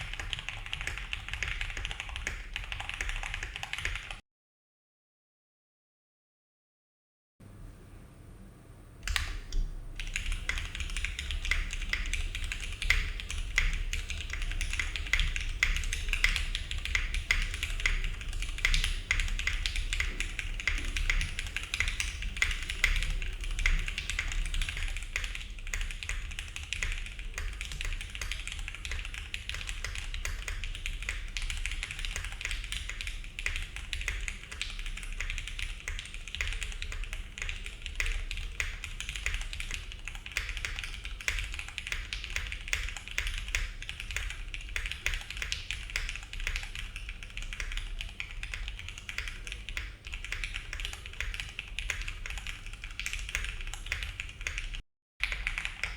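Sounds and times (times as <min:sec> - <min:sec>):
mechanical keyboard typing: 0:00.0 - 0:04.2, 0:09.1 - 0:55.9.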